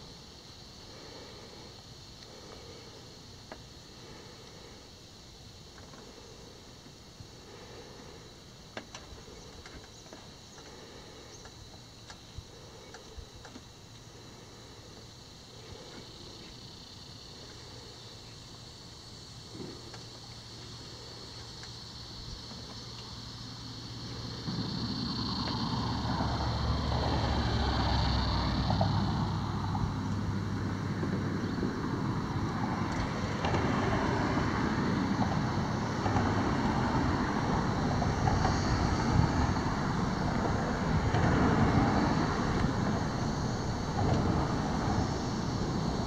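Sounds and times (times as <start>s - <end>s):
low rumble of road traffic: 0.0s - 46.0s.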